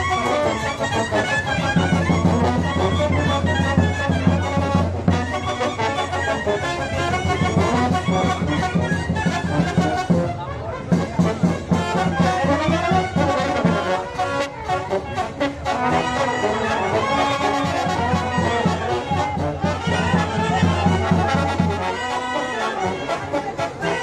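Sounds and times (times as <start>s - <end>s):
trumpets and trombones: 0.0s - 24.0s.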